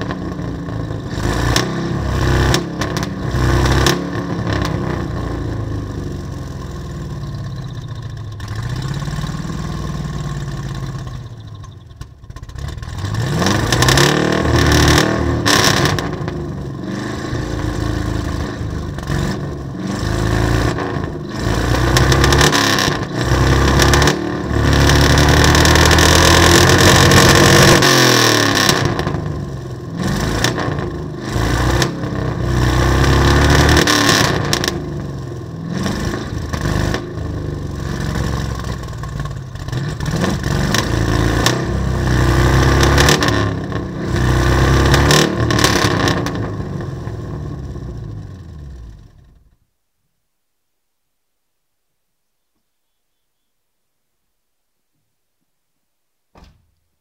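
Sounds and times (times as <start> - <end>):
pickup engine revving: 0.0 - 49.5.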